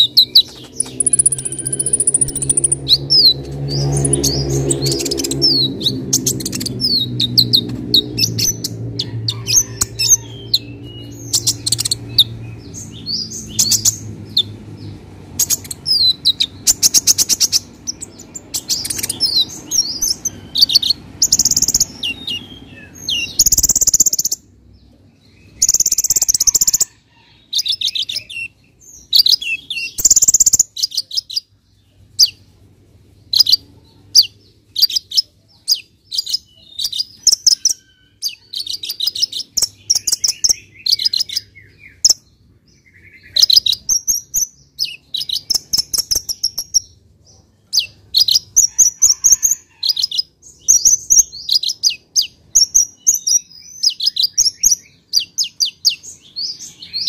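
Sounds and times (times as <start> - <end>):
bird chirping and trilling: 0.0 - 32.5, 33.2 - 57.0.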